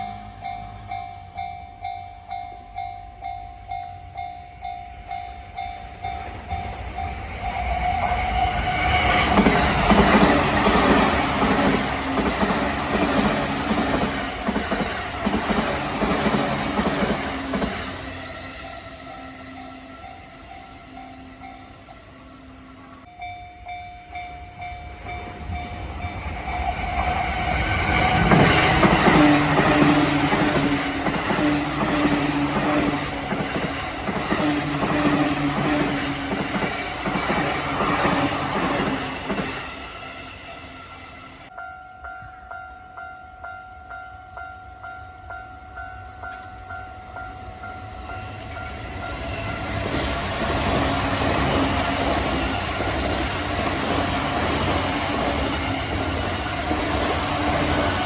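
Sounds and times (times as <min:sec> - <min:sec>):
crossing alarm dinging: 0:00.0 - 0:25.3, 0:26.6 - 0:58.0
approaching train rumble: 0:00.0 - 0:58.0
electric train passing: 0:00.0 - 0:58.0.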